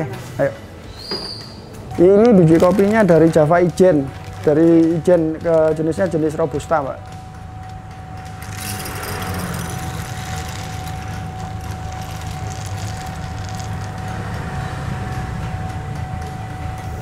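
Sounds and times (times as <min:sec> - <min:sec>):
coffee roaster humming and whining: 0:00.0 - 0:17.0.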